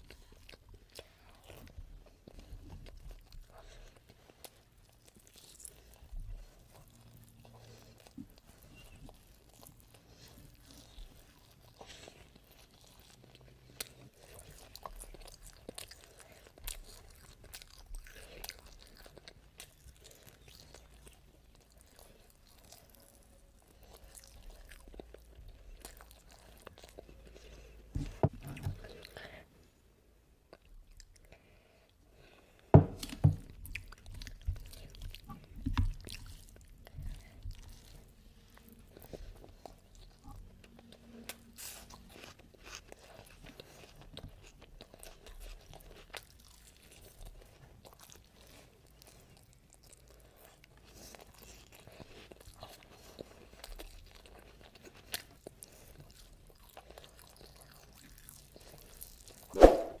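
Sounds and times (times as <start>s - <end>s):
chewing and crunching food: 0.0s - 59.5s.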